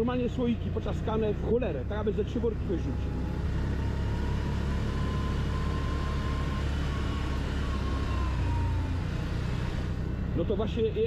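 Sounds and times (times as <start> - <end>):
atv engine droning: 0.0 - 11.0.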